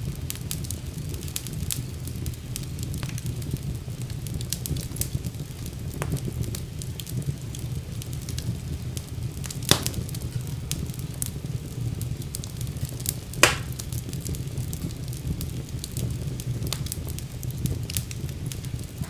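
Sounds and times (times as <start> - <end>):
fire flames rumbling: 0.0 - 19.0
loud pops from fire: 0.0 - 19.0
wood fire crackling: 0.0 - 19.0.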